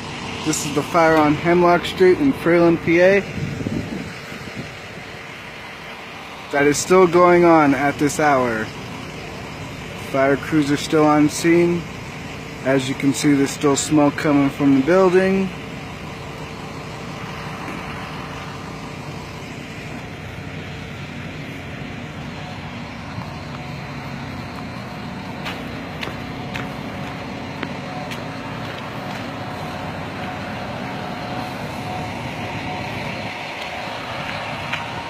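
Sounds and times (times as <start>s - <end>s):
fire engine running: 0.0s - 35.0s.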